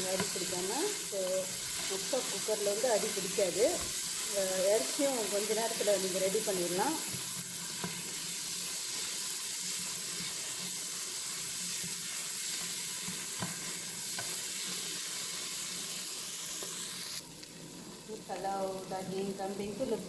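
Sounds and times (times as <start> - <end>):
meat sizzling in a pot: 0.0 - 20.0.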